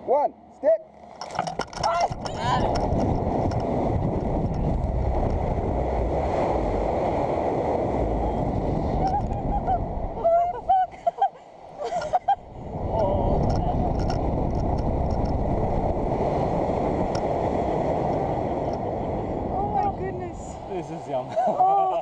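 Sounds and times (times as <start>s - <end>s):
wind rushing over microphone: 1.2s - 21.3s.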